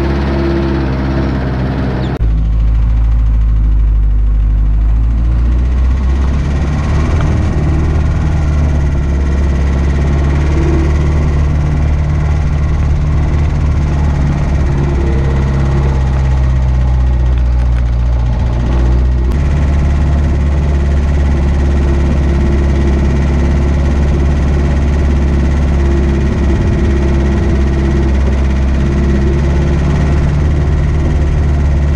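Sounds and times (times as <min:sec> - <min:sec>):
car engine running: 0:00.0 - 0:31.9.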